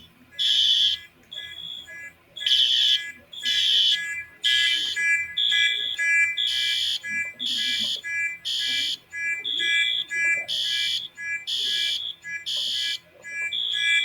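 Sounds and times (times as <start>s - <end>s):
recorded announcements: 0.0s - 14.0s.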